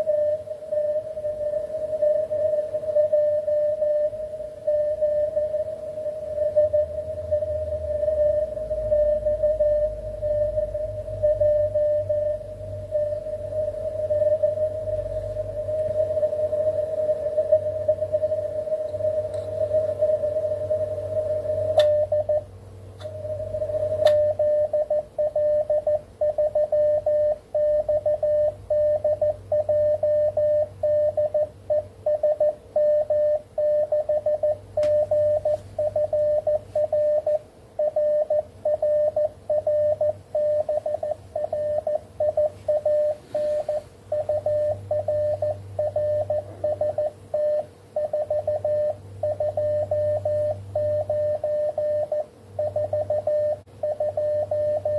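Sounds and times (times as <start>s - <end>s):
low steady hum: 0.0s - 54.9s
morse code tone: 0.0s - 54.9s.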